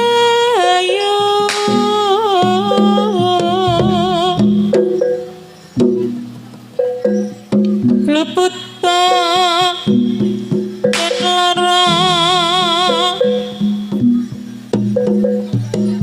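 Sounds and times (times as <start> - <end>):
gamelan metallophone notes: 0.0 - 16.0
high wavering melody: 0.0 - 16.0
drum hits: 1.5 - 8.4, 9.0 - 16.0.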